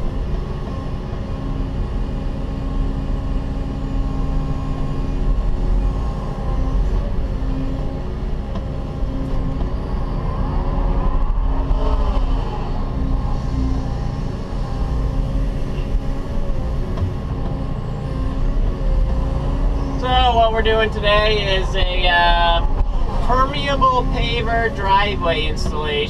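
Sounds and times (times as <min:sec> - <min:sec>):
excavator engine and hydraulics: 0:00.0 - 0:26.0
hydraulic whine: 0:00.0 - 0:26.0.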